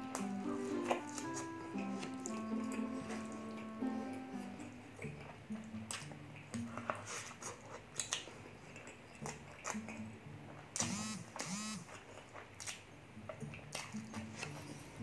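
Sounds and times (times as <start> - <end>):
soft background music: 0.0 - 15.0
wet chewing: 0.0 - 15.0.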